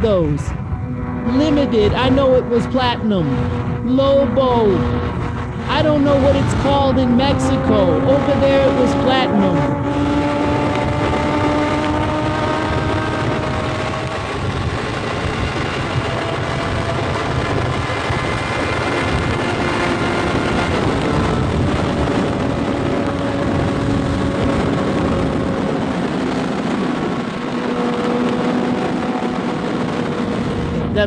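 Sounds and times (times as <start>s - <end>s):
motorcycle engine cruising: 0.0s - 31.0s
wind and road noise: 0.0s - 31.0s.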